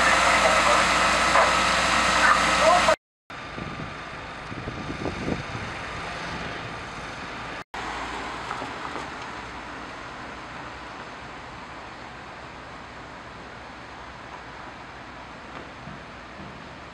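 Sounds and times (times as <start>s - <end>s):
vehicle engines rumbling: 0.0s - 16.9s.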